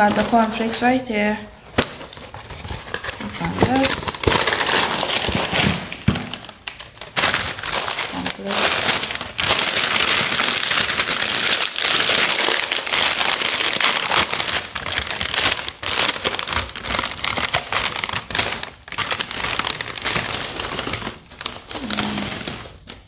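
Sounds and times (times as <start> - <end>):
plastic bag crinkling: 0.0 - 23.0
cornflakes shifting in bag: 3.1 - 22.9.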